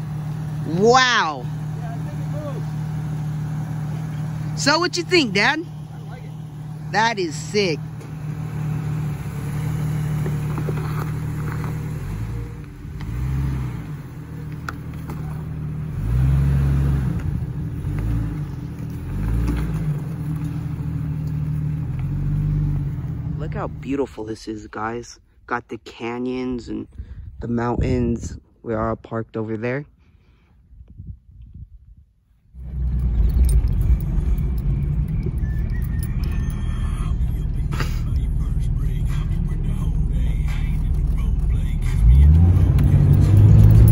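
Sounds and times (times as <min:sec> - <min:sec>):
engine revving at low speed: 0:00.0 - 0:23.9, 0:32.6 - 0:43.9.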